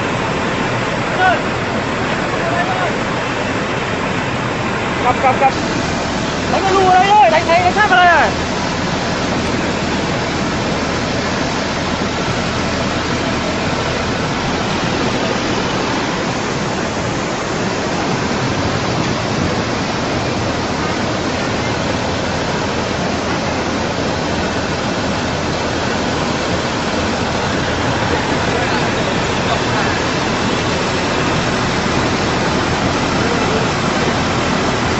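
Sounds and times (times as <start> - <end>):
floodwater rushing: 0.0 - 34.9.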